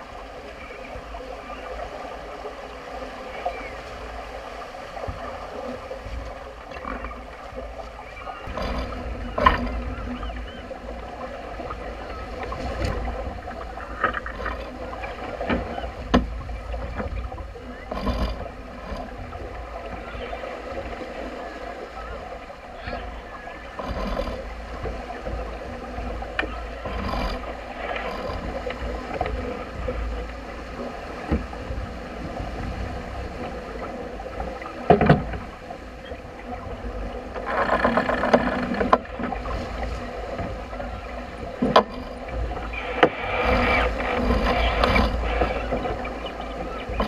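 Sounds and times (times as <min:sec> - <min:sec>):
water rushing along hull: 0:00.0 - 0:47.0
wind buffeting microphone: 0:00.0 - 0:47.0.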